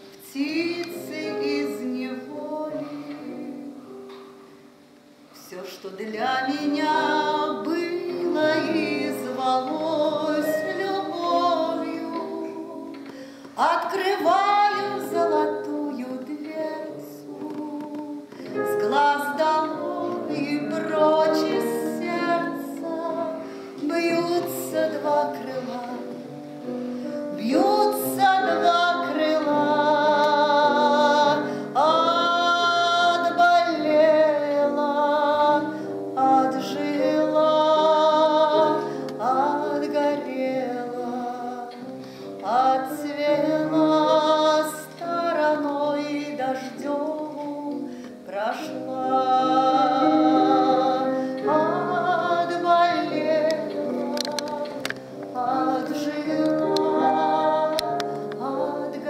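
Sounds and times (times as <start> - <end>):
digital piano chords: 0.0 - 59.0
woman singing operatically: 0.2 - 3.8, 5.4 - 13.0, 13.6 - 26.0, 27.4 - 41.8, 42.4 - 59.0.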